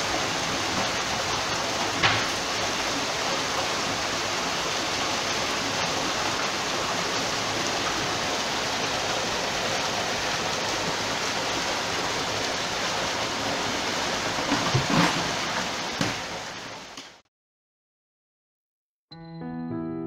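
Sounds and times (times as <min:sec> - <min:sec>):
water pouring and churning: 0:00.0 - 0:17.2.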